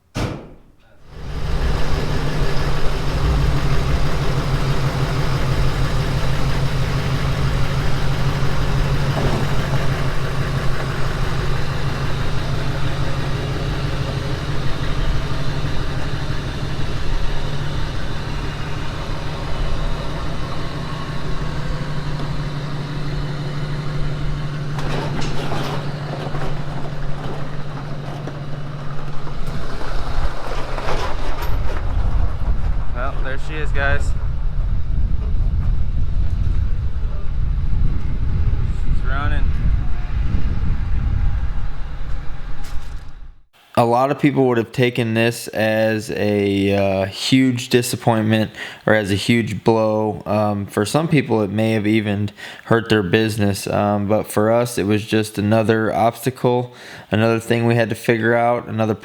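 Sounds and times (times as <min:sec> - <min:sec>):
diesel engine idling: 0:01.0 - 0:43.7, 0:48.1 - 0:53.0.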